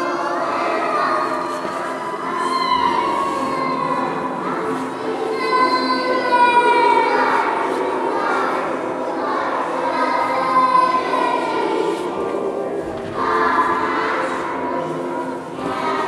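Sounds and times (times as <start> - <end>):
children's choir singing: 0.0 - 16.0.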